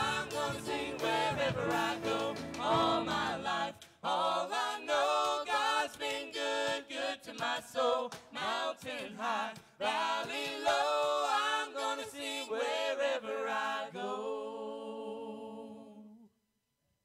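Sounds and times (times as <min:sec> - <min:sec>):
group singing a cappella: 0:00.0 - 0:16.3.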